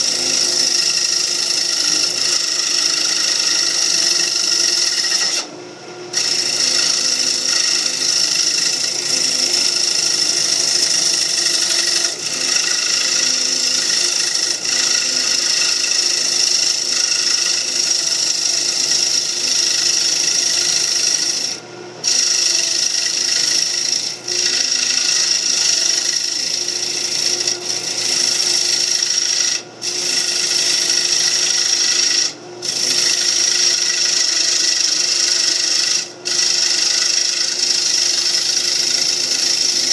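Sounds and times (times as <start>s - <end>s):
lathe tool hissing on wood: 0.0s - 5.5s, 6.1s - 39.9s.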